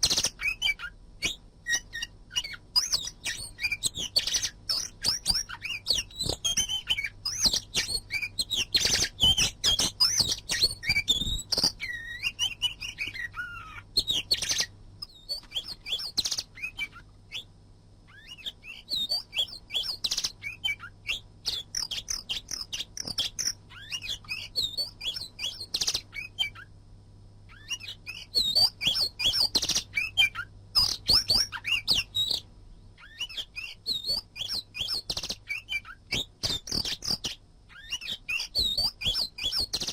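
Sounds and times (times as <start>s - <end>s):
bird singing chirps and whistles: 0.0s - 17.5s, 18.1s - 26.7s, 27.5s - 39.9s
faint low hum: 0.0s - 39.9s.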